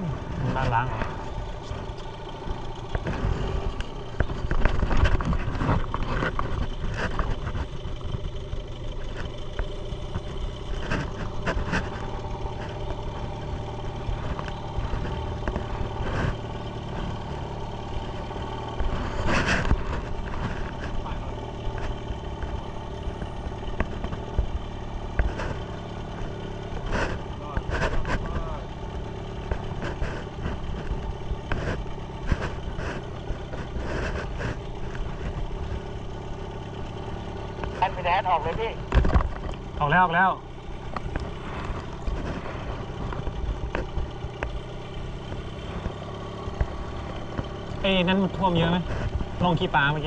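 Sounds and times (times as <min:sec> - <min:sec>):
outboard motor running: 0:00.0 - 0:50.0.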